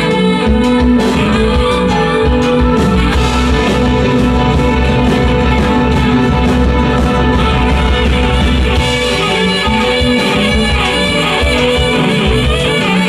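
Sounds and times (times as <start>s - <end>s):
live band with electric guitars: 0.0s - 13.0s
saxophone: 0.0s - 13.0s.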